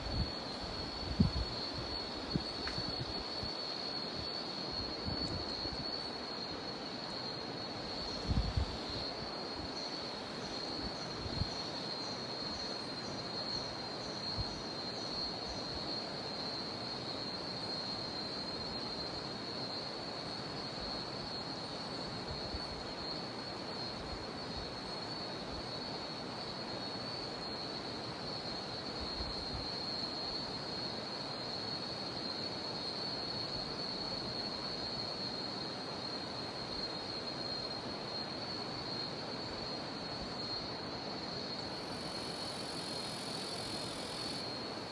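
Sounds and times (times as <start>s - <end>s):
cicadas droning: 0.0s - 44.9s.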